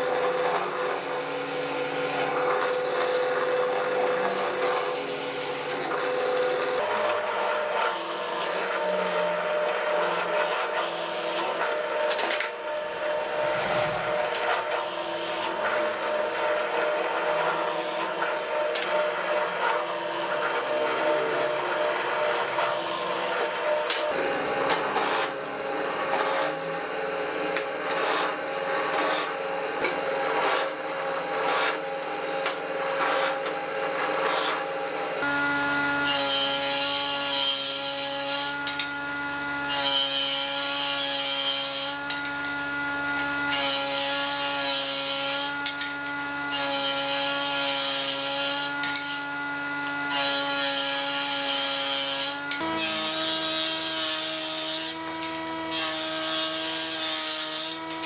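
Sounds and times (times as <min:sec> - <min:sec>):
table saw motor running: 0:00.0 - 0:58.0.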